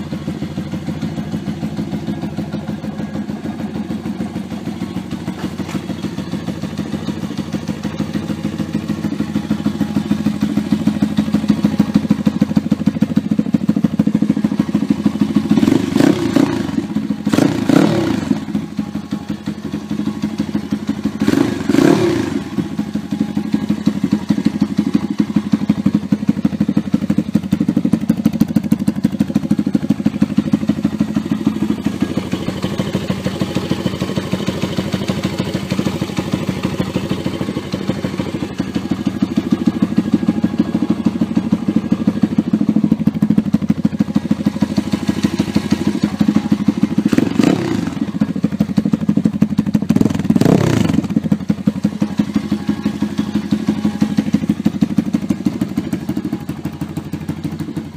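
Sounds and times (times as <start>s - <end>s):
motorbike engine idling: 0.0s - 57.9s.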